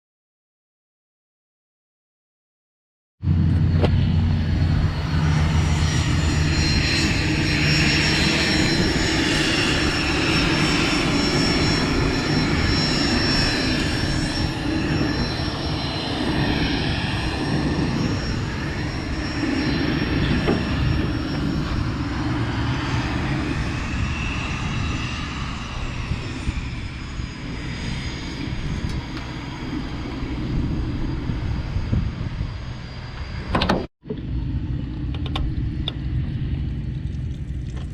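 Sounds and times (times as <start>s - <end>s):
light aircraft engine and propeller: 3.2s - 37.9s.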